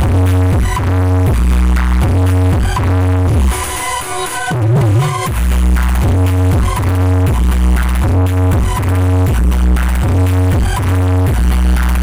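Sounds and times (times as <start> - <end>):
loud electronic dance music: 0.0 - 12.0
wobbling bass line: 0.0 - 12.0.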